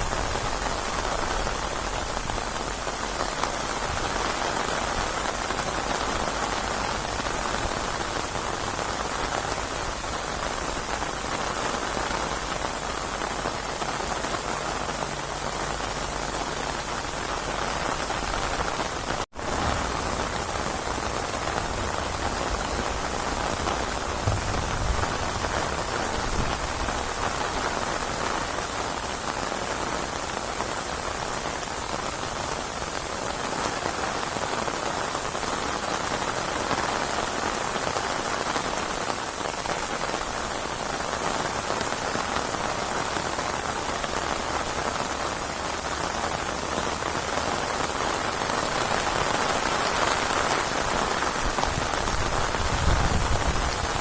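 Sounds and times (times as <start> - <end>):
dense rain hissing: 0.0 - 54.0.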